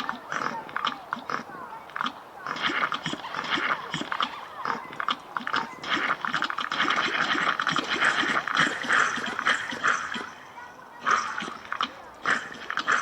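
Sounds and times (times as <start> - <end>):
animal-like noises: 0.0 - 13.0
rapid clicks: 0.0 - 13.0.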